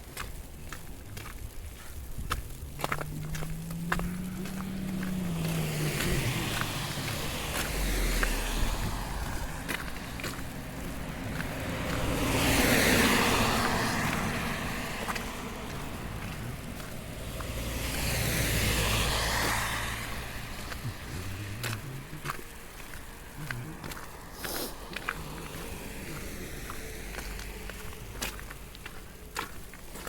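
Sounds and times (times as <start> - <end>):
cars passing: 0.0 - 30.0
faint footsteps: 0.0 - 30.0.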